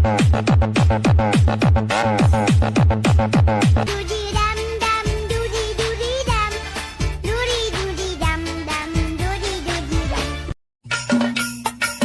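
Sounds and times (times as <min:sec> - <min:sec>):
upbeat pop song: 0:00.0 - 0:10.6.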